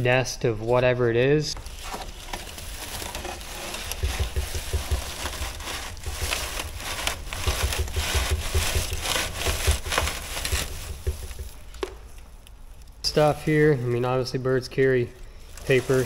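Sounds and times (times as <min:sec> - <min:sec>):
straw crackling and rustling: 0:00.4 - 0:16.0.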